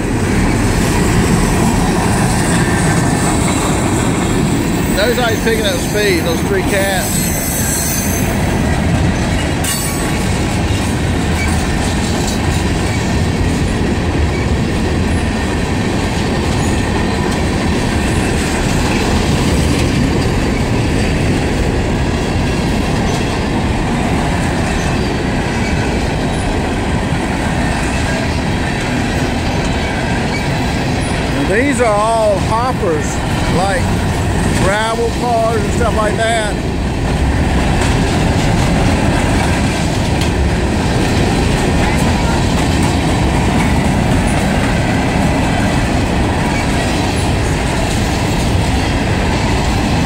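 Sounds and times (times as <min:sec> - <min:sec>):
freight train wheels on rail: 0:00.0 - 0:50.0.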